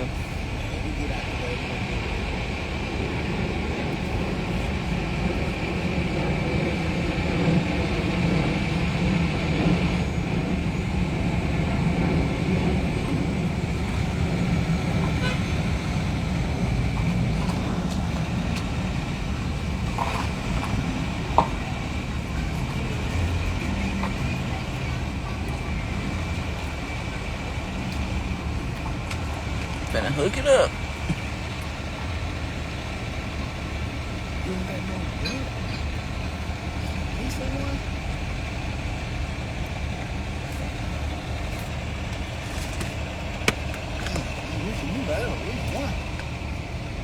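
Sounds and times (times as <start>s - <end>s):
heavy vehicle engines rumbling: 0.0s - 47.0s.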